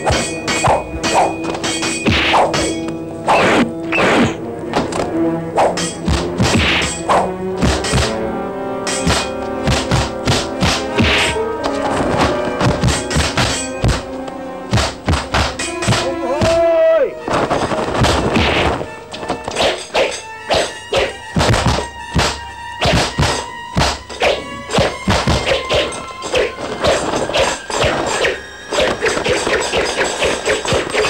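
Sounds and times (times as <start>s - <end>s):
percussive action music: 0.0s - 4.4s, 5.6s - 16.6s, 17.2s - 31.0s.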